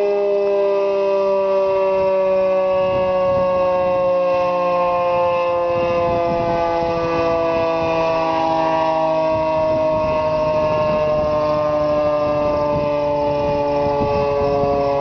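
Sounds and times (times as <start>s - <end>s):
warning siren chord: 0.0s - 15.0s.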